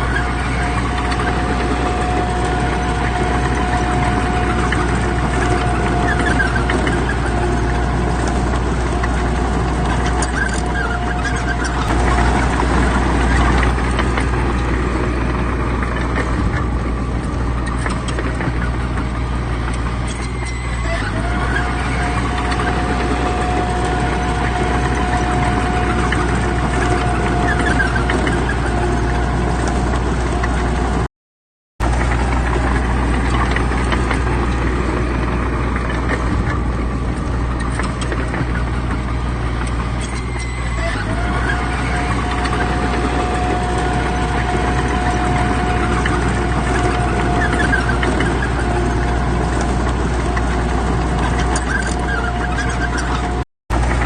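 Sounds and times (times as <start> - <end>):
heavy diesel machinery engine: 0.0 - 31.1, 31.8 - 54.0.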